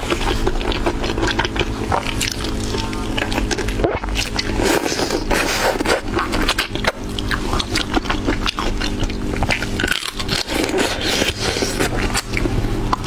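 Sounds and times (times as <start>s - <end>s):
wet chewing and lip smacks: 0.0s - 5.4s, 6.0s - 13.0s.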